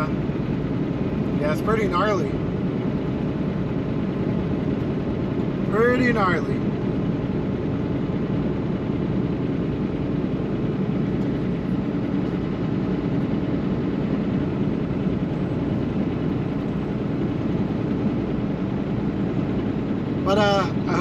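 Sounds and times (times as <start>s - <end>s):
truck engine: 0.0s - 21.0s.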